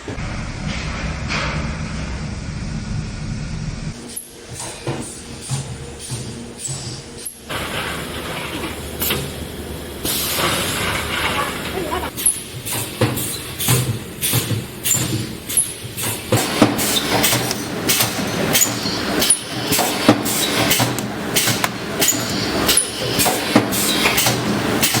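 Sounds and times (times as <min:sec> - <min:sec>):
constant mechanical noise: 0:00.0 - 0:25.0.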